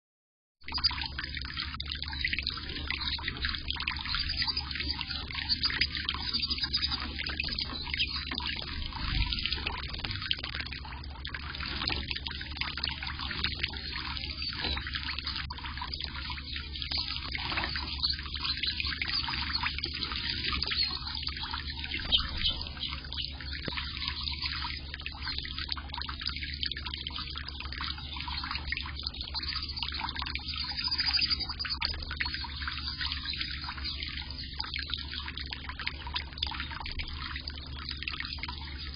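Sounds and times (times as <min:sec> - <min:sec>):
fountain jet splashing: 0:00.7 - 0:38.9
water dripping: 0:00.7 - 0:38.9.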